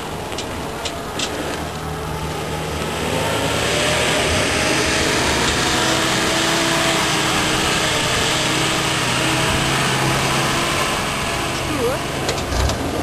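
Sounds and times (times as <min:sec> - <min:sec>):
heavy rushing noise: 0:00.0 - 0:13.0
truck engine running: 0:00.0 - 0:13.0.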